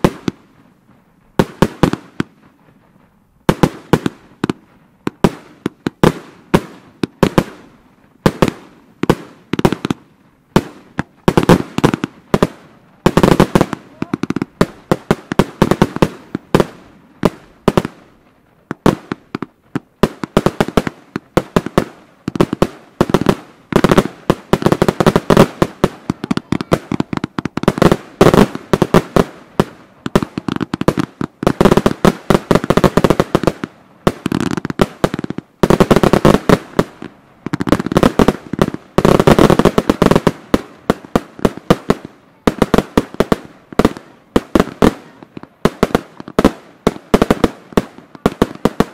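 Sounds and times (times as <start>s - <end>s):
firework crackling: 0.0s - 48.9s
fireworks banging: 0.0s - 48.9s.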